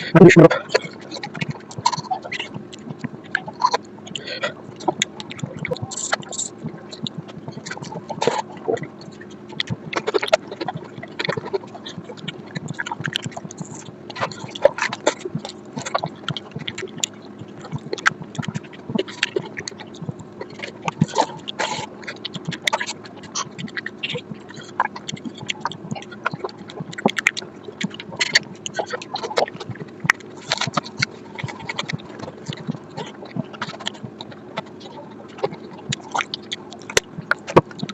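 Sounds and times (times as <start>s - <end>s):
chewing and lip smacking: 0.0s - 37.9s
faint steady hum: 0.0s - 37.9s.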